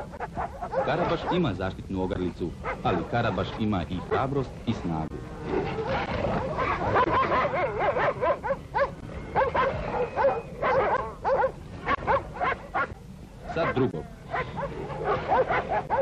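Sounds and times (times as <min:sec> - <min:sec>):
dog and wolf fighting cries: 0:00.0 - 0:01.6, 0:02.6 - 0:04.6, 0:05.2 - 0:16.0.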